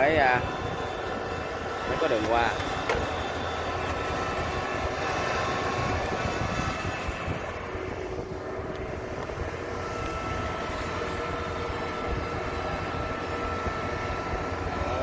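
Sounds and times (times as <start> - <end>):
combine harvester diesel engine: 0.0 - 15.0.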